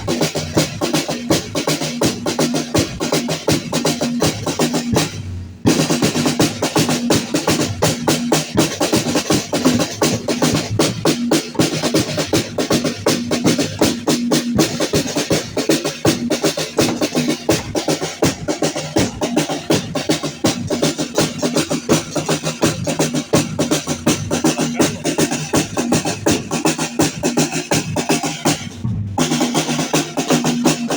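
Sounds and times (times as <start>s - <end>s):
fast drumbeats: 0.0s - 30.9s.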